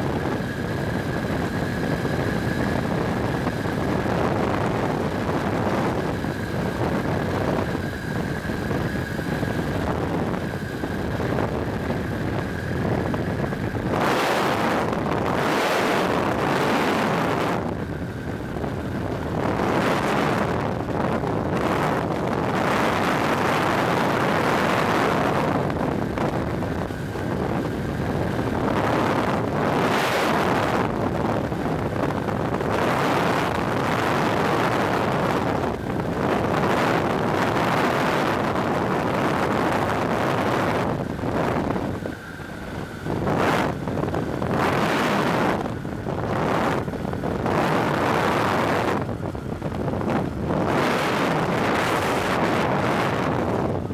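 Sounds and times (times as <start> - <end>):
microlight engine running: 0.0 - 53.9
wind rush on microphone: 0.0 - 53.9.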